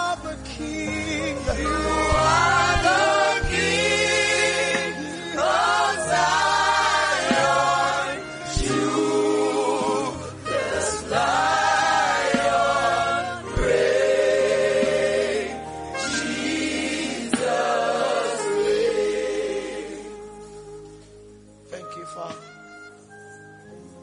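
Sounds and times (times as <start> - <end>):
voices singing gospel song: 0.0 - 21.0.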